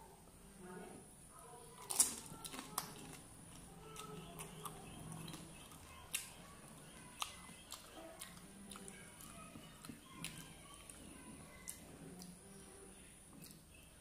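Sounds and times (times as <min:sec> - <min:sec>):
chewing: 0:01.7 - 0:14.0.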